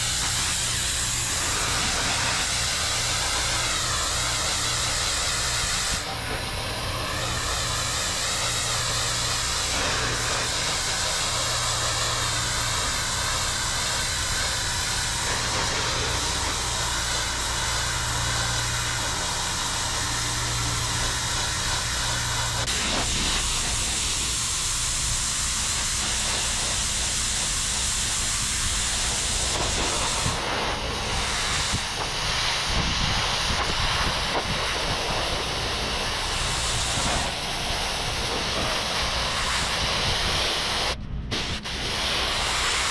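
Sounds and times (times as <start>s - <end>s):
pressure washer engine humming: 0.0s - 42.9s
pressure washer water jet hissing: 0.0s - 42.9s.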